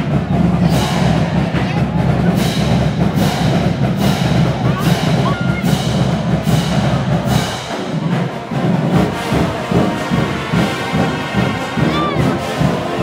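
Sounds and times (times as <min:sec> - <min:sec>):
large crowd noise: 0:00.0 - 0:13.0
marching band drums: 0:00.0 - 0:13.0.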